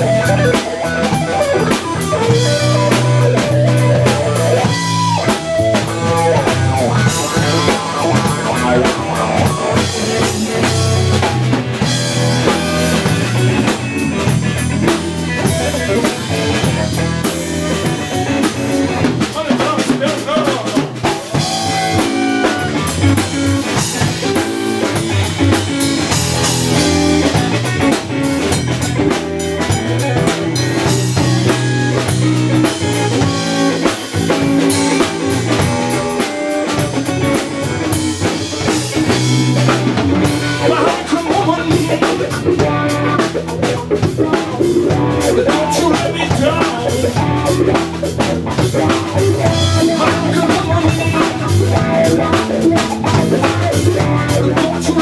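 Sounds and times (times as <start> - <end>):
bass: 0.0 - 55.0
drum kit steady beat: 0.0 - 55.0
electric guitar: 0.0 - 55.0.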